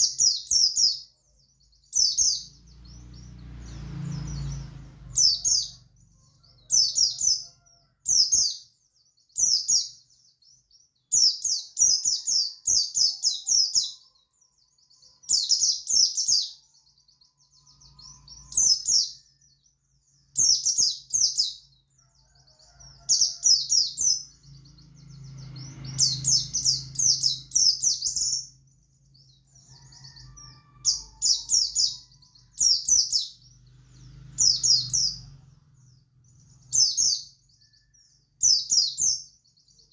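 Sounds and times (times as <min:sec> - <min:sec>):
bird rapid high chirps: 0:00.0 - 0:39.9.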